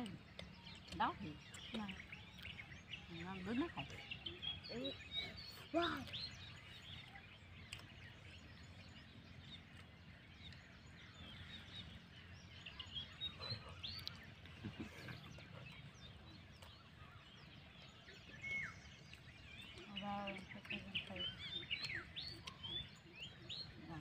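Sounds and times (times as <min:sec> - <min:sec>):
bird chirps: 0:00.0 - 0:24.0
low background rumble: 0:00.0 - 0:24.0.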